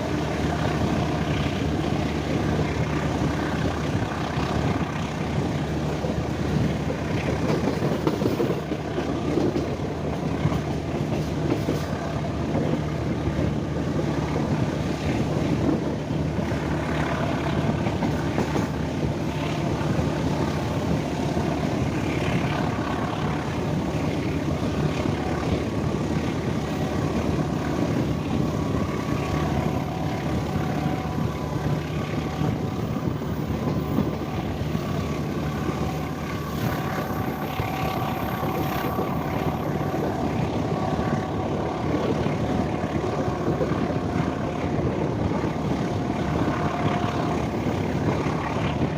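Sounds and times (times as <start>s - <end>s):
locomotive diesel engine drone: 0.0s - 48.9s.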